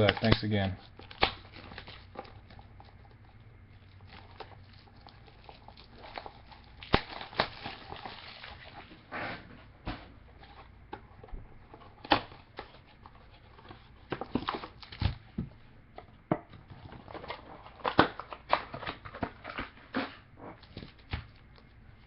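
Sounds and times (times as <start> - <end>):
cardboard and wrappers rustling: 0.0 - 9.0, 10.0 - 15.4, 16.6 - 22.0.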